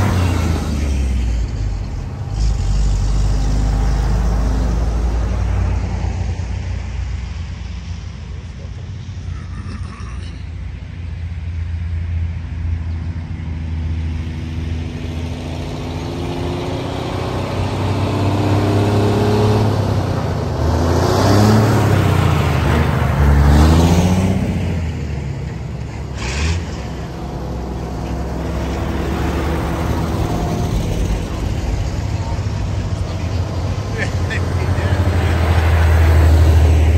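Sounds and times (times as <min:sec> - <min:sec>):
old truck engine passing: 0:00.0 - 0:36.9.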